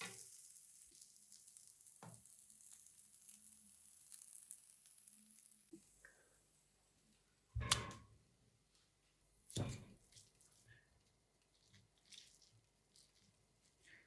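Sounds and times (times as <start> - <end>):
faint squishing: 0.0 - 8.0, 8.7 - 14.0.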